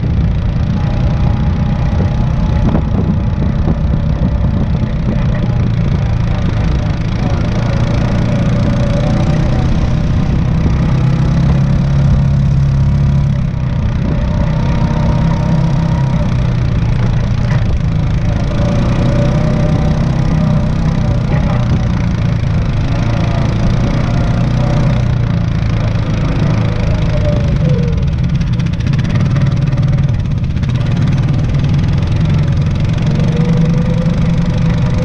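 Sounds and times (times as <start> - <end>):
off-road vehicle engines running: 0.0 - 35.0.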